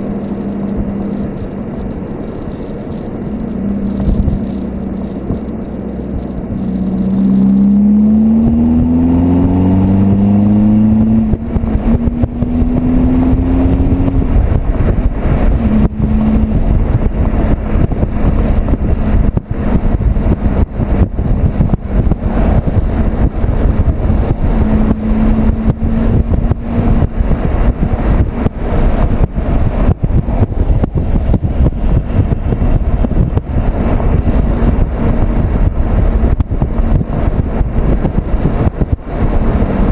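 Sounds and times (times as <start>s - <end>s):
car engine accelerating: 0.0s - 39.9s
loud rushing with short gusts: 0.0s - 39.9s.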